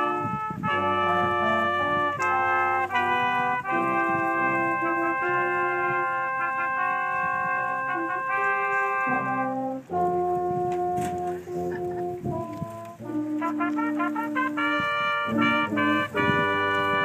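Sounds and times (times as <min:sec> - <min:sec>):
brass quintet playing chords: 0:00.0 - 0:17.0.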